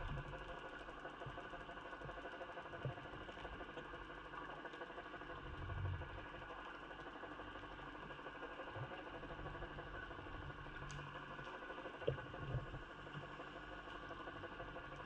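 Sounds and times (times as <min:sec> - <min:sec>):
boat engine idling underwater: 0:00.0 - 0:15.0.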